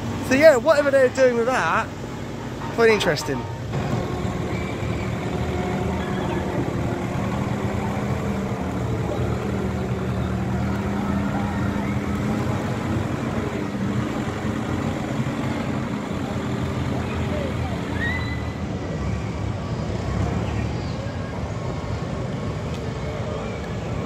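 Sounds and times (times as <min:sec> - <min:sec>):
construction machinery engine drone: 0:00.0 - 0:24.0.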